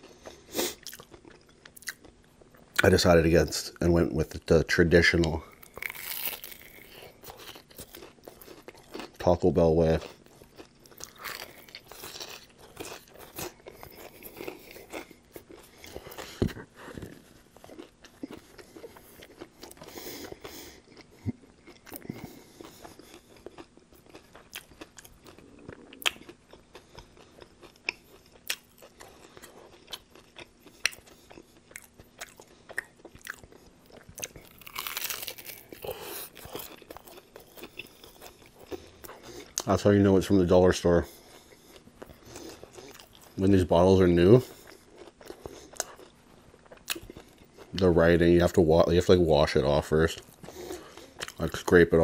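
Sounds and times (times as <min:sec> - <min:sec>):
chewing and crunching: 0:00.0 - 0:52.0.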